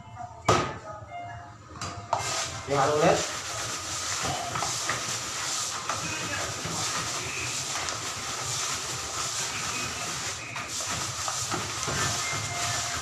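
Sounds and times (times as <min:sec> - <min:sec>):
sugar scraping plastic basin: 0:02.2 - 0:13.0.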